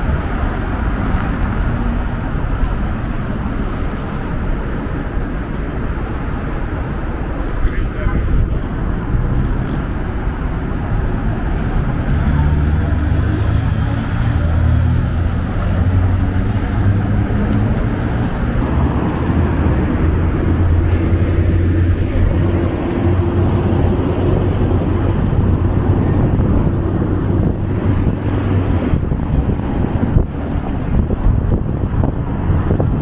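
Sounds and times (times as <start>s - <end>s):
cars passing: 0.0s - 33.0s
engine hum: 0.0s - 33.0s.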